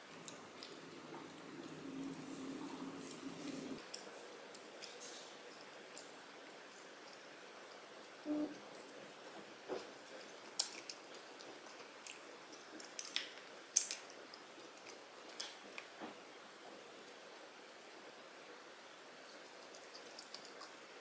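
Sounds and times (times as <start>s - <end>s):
chewing soft food: 0.0s - 17.2s, 19.2s - 21.0s.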